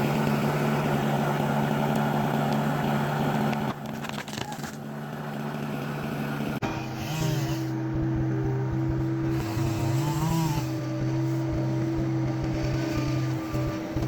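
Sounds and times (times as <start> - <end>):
different engine hum: 0.0 - 14.0
engine running: 0.0 - 14.0.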